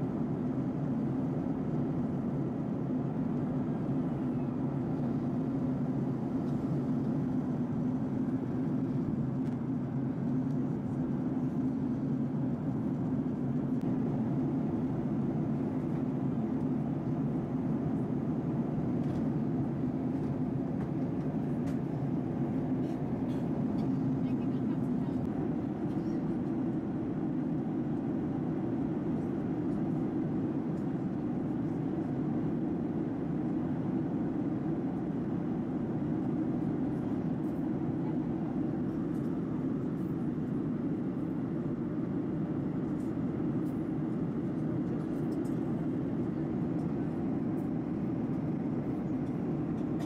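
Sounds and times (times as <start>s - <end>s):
airplane cabin jet engine noise: 0.0s - 50.0s.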